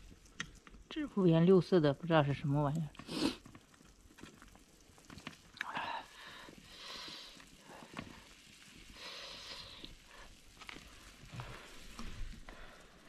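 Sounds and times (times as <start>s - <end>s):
soft hiss: 0.0s - 13.0s.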